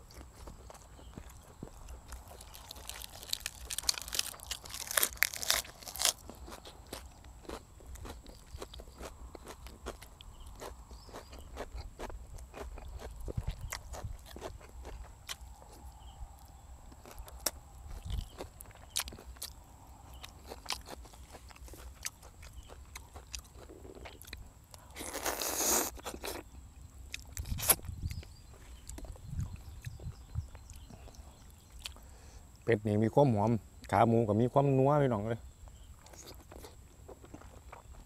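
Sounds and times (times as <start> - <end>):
food crunching: 0.0 - 32.1, 35.8 - 38.0
man chewing food: 0.0 - 32.2, 35.6 - 38.0.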